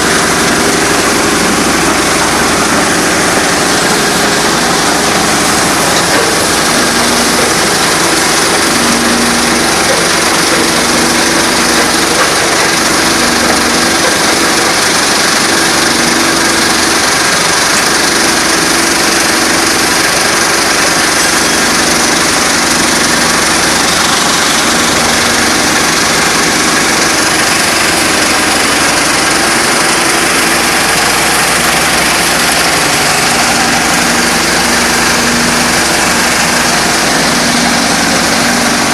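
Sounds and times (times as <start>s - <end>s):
stone crusher machine running: 0.0s - 38.9s.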